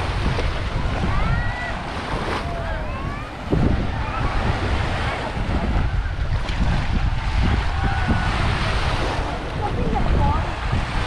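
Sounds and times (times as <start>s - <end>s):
small waves washing on sand: 0.0s - 11.0s
wind buffeting microphone: 0.0s - 11.0s.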